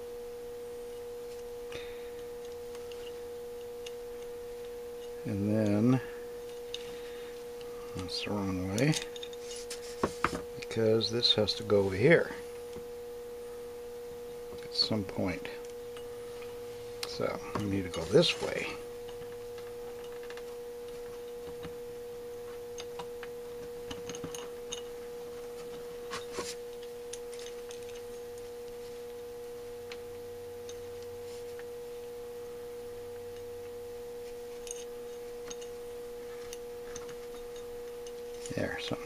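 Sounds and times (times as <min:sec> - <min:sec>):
steady humming tone: 0:00.0 - 0:39.0.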